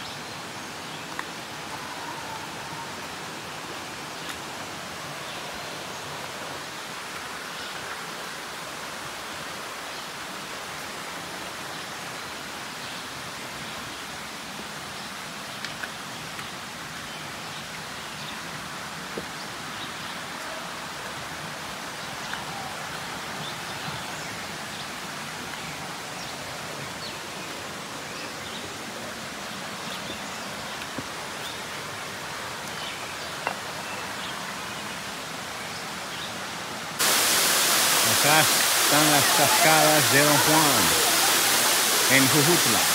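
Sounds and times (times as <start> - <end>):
waterfall rushing: 0.0 - 15.6, 16.5 - 42.9.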